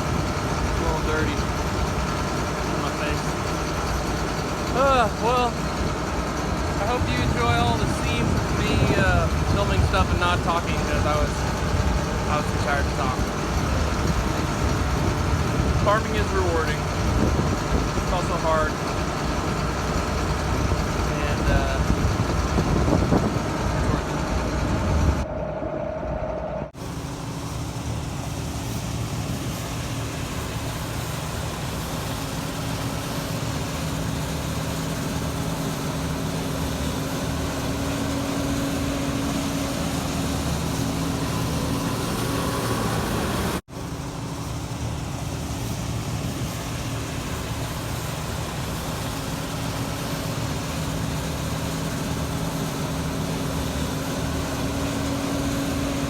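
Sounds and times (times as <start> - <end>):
heavy machinery engine humming: 0.0 - 56.0.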